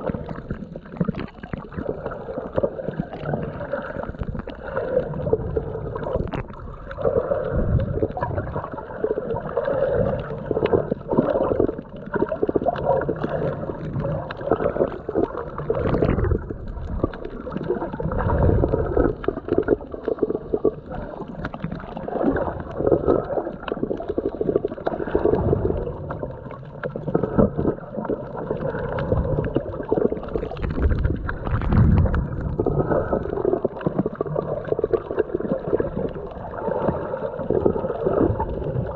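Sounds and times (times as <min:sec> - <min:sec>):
muffled water sloshing underwater: 0:00.0 - 0:38.9.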